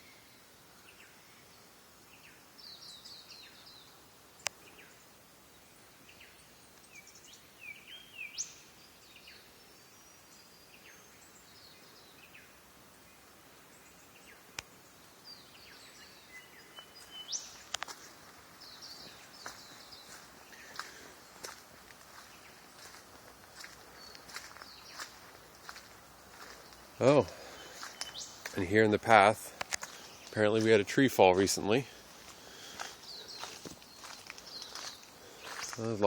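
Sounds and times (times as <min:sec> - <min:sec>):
faint birdsong: 0:00.0 - 0:36.0.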